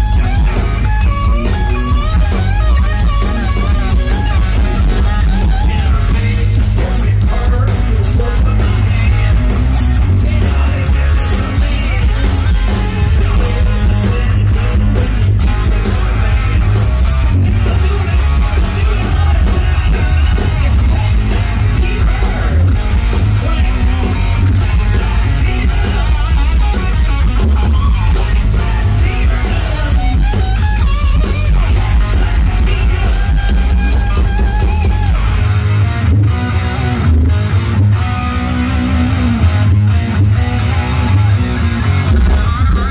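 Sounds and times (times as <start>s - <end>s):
hard rock band playing: 0.0s - 42.9s.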